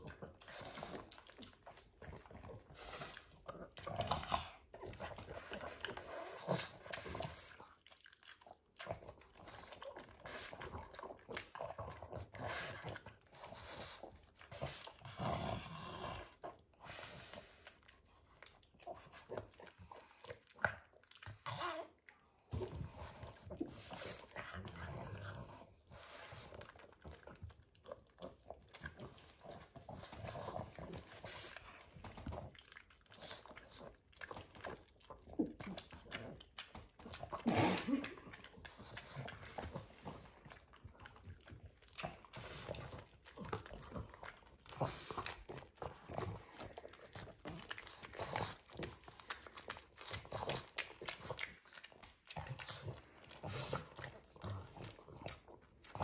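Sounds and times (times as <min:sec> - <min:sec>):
dogs licking and chewing: 0:00.0 - 0:56.0.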